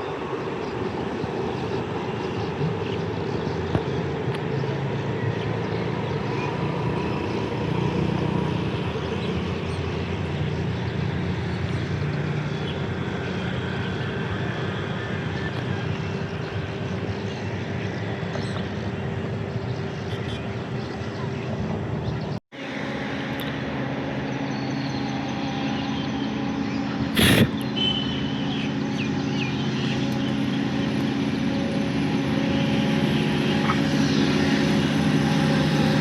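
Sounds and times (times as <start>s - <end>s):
train running: 0.0s - 22.0s, 22.6s - 36.0s.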